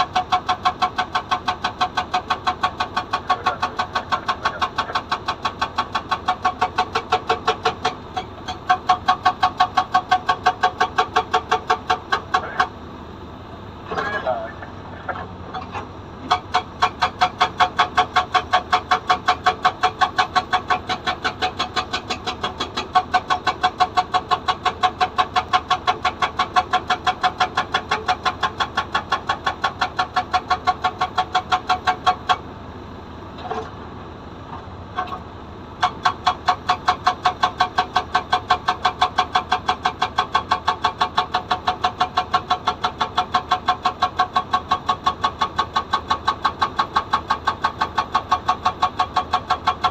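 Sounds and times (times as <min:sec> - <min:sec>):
hydraulic rock breaker hammering rock: 0:00.0 - 0:12.8, 0:15.1 - 0:32.5, 0:35.0 - 0:49.9.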